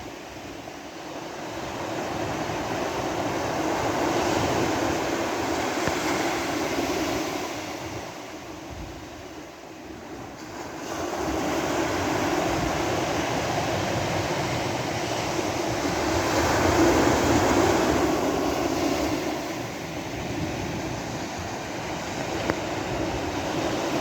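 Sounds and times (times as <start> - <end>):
sea waves washing onto shore: 0.2 - 24.0.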